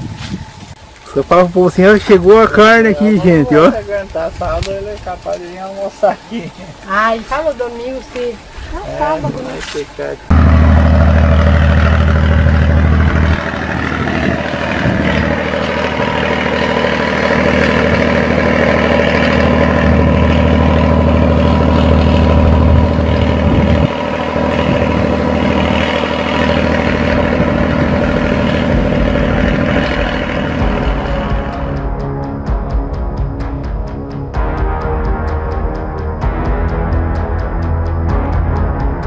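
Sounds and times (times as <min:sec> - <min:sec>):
engine humming: 0:00.0 - 0:39.0.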